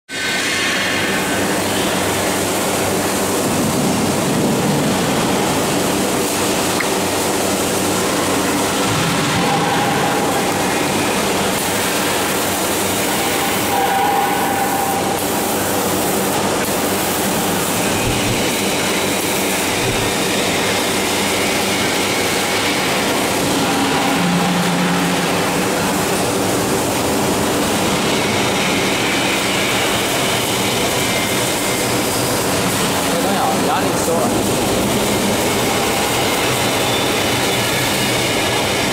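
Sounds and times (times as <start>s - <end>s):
grain roaster machine rumbling: 0.1s - 38.9s.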